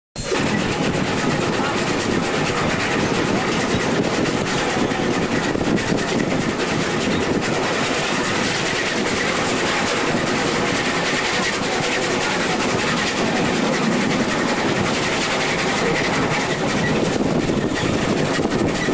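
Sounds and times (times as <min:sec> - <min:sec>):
rail wagon rumble and rattle: 0:00.2 - 0:18.9
wheels clicking over rail joints: 0:00.3 - 0:18.9.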